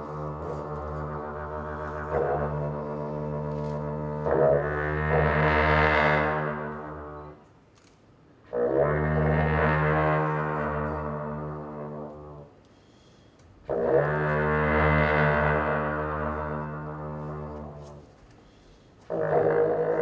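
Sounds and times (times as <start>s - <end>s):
long horns droning: 0.0s - 7.5s, 8.5s - 12.6s, 13.7s - 18.4s, 19.0s - 20.0s.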